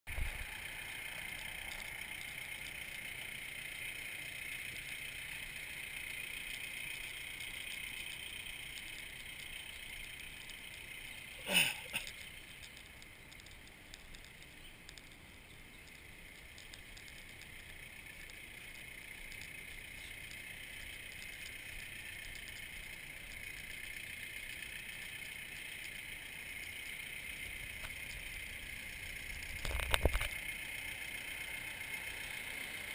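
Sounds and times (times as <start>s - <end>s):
outdoor background hiss: 0.1s - 32.9s.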